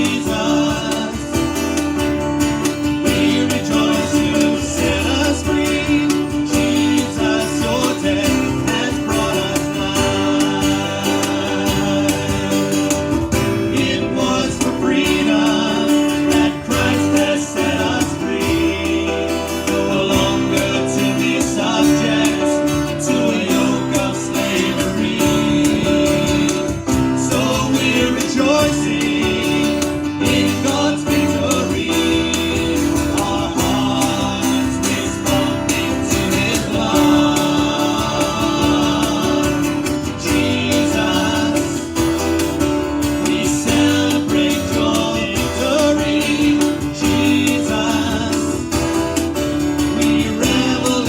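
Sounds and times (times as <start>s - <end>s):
person singing worship song: 0.0s - 1.8s, 2.8s - 42.1s, 43.1s - 49.0s, 49.9s - 51.0s
acoustic guitar: 0.0s - 51.0s.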